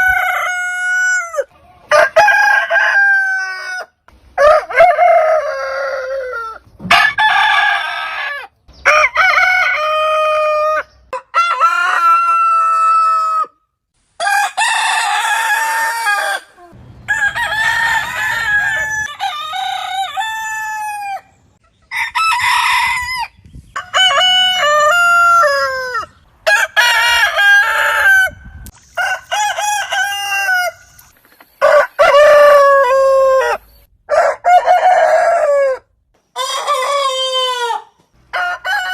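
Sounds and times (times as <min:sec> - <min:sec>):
roosters crowing: 0:00.0 - 0:13.6, 0:14.2 - 0:38.9.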